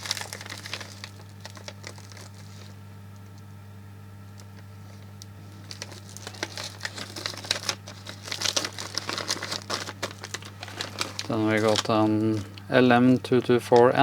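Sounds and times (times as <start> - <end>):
plastic bags crinkling: 0.0 - 3.3, 4.3 - 14.0
low steady hum: 0.0 - 14.0.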